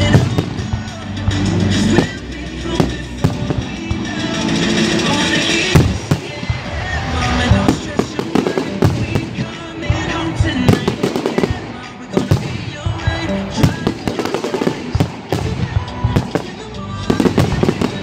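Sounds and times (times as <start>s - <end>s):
loud music: 0.0s - 18.0s.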